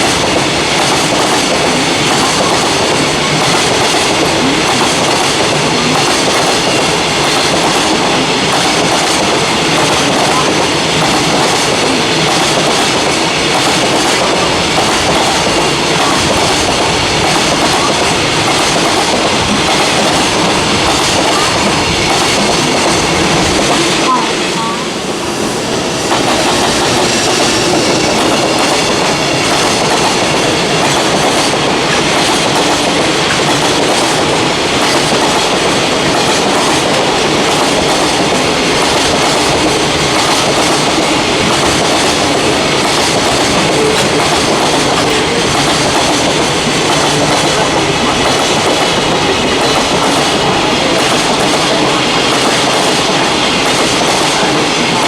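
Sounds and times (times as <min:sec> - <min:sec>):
freight train wheels clicking: 0:00.0 - 0:55.0.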